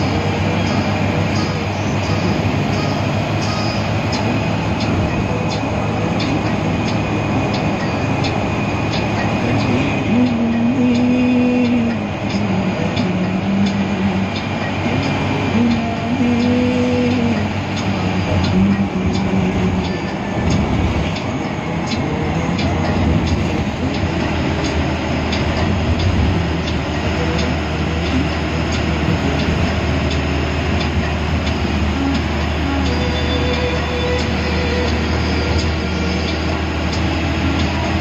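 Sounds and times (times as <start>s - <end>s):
bus engine and road drone: 0.0s - 38.0s.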